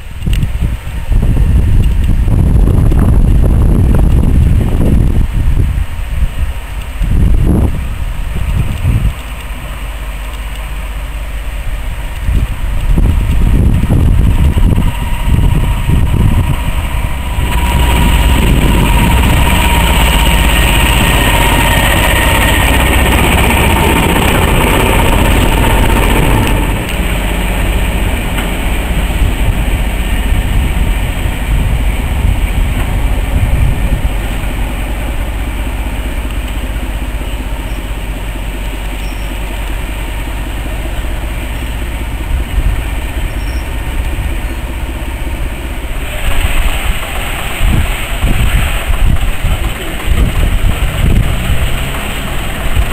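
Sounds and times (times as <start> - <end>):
diesel locomotive engine: 0.0 - 52.9.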